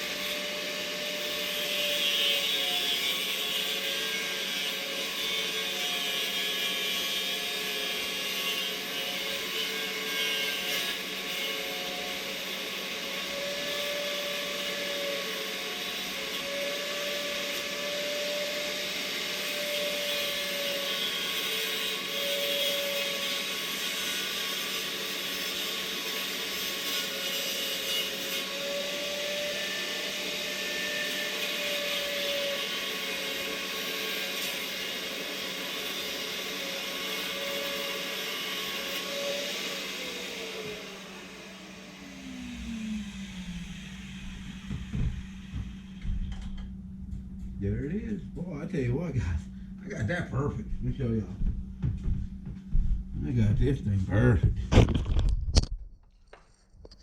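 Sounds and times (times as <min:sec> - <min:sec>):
small motor tool humming: 0:00.0 - 0:52.2.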